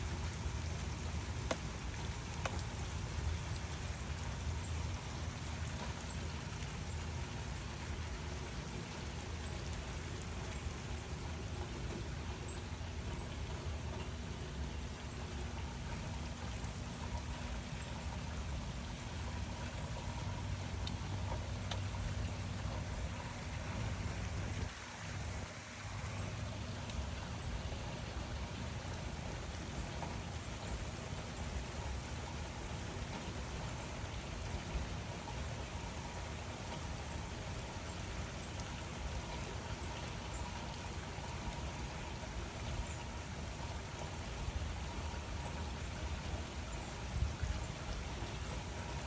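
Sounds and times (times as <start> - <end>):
steady rain hiss: 0.0 - 49.0.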